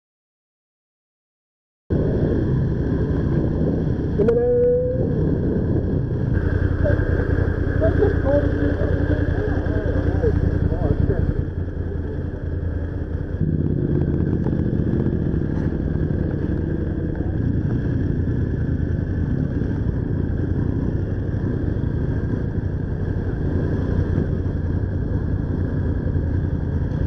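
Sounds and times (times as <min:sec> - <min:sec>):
motorcycle engine running: 0:01.9 - 0:27.0.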